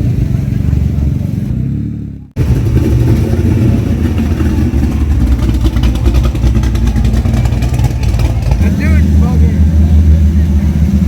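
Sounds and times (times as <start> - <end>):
car engine running loud: 0.0 - 11.0.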